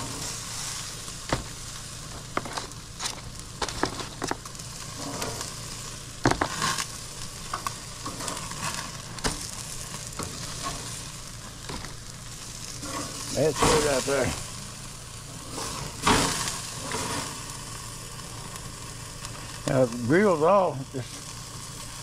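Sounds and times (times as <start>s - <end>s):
meat sizzling on grill: 0.0s - 22.0s.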